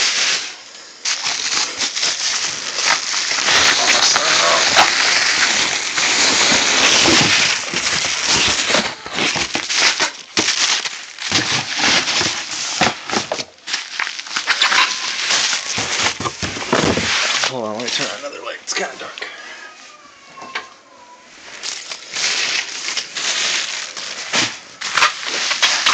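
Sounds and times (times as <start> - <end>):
packaging crinkling and rustling: 0.0 - 19.2, 21.3 - 25.9.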